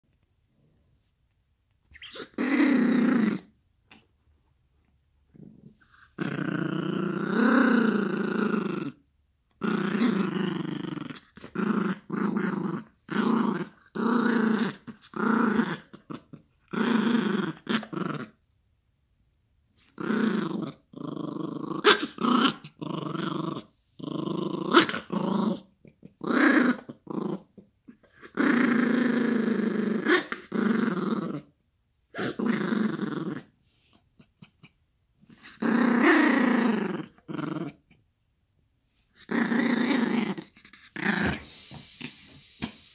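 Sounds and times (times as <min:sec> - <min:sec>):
small dog growling in play: 0:01.9 - 0:04.1, 0:05.3 - 0:18.4, 0:19.8 - 0:38.0, 0:39.0 - 0:42.9.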